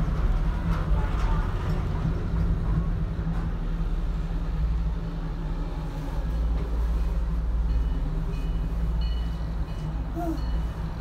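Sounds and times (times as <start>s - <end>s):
gondola cabin low rumble: 0.0s - 11.0s.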